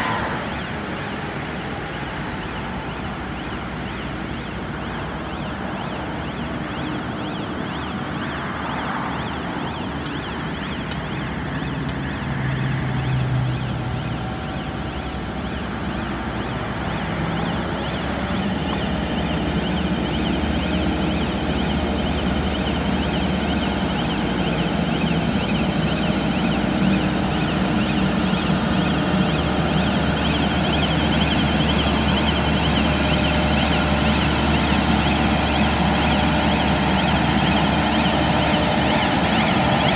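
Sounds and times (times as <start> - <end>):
diesel engine running: 0.0 - 39.9
warbling warning alarm: 0.0 - 39.9.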